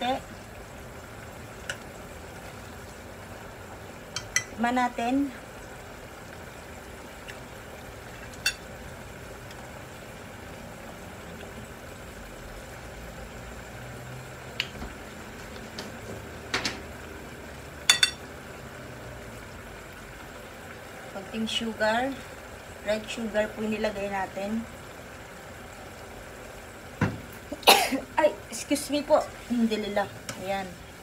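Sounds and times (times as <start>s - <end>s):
pot of liquid hissing: 0.0s - 31.0s.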